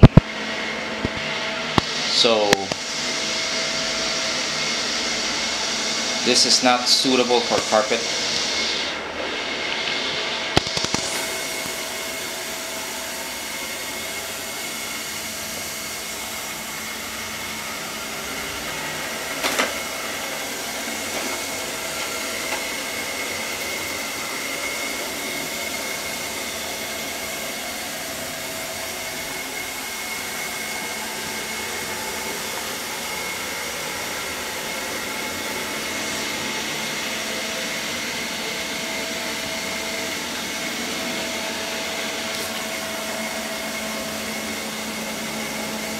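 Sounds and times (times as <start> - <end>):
robot vacuum fan whine: 0.0 - 45.9.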